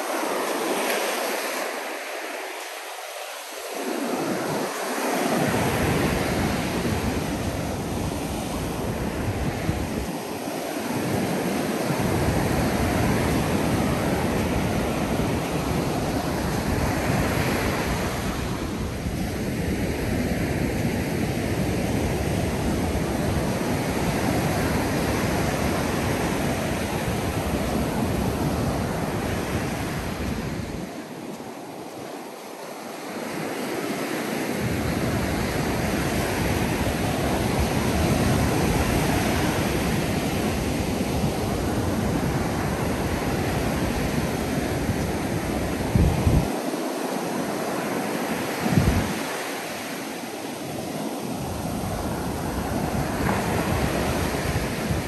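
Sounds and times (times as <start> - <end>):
ocean surf breaking on beach: 0.0 - 55.0
wind rumbling on microphone: 2.8 - 32.2, 33.2 - 55.0.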